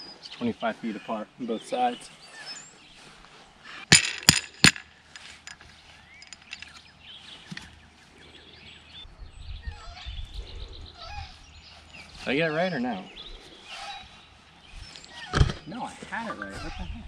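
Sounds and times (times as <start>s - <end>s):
birds chirping faintly: 0.0s - 3.9s, 4.5s - 17.0s.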